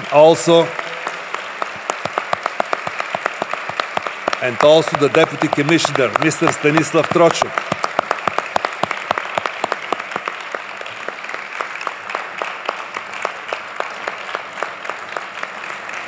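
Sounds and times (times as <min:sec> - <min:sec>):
audience applauding: 0:00.0 - 0:16.0
nearby sharp claps: 0:00.0 - 0:16.0.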